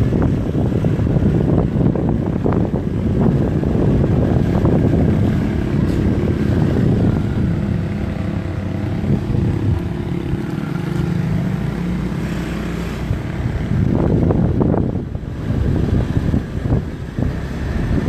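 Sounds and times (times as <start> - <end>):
motor scooter engine running: 0.0 - 18.0
wind buffeting microphone: 0.0 - 18.0.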